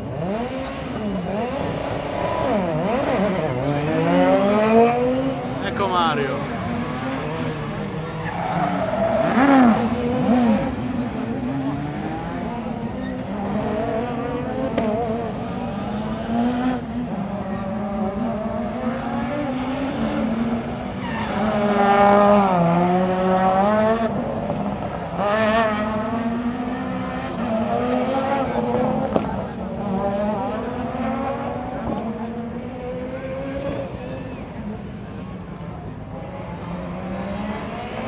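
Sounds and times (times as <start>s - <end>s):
rally car engine revving: 0.0s - 35.4s, 36.0s - 38.0s.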